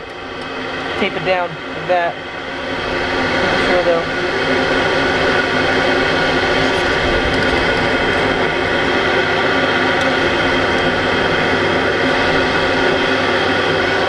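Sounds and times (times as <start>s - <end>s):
fan whining and blowing air: 0.0s - 14.0s.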